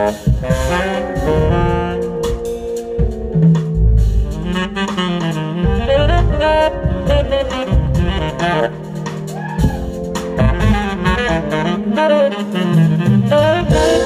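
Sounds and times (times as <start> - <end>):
drum kit keeping time: 0.0 - 14.0
tenor saxophone soloing: 0.0 - 14.0.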